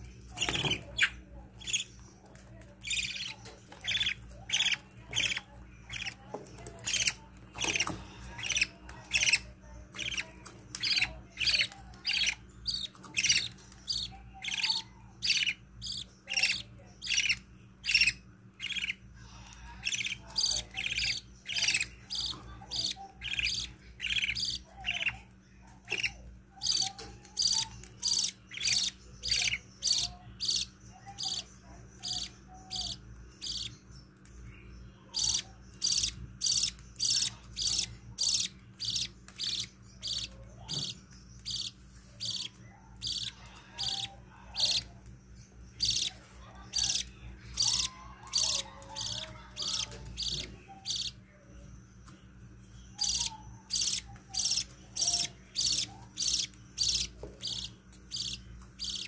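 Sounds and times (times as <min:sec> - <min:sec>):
chicks cheeping: 0:00.0 - 0:59.0.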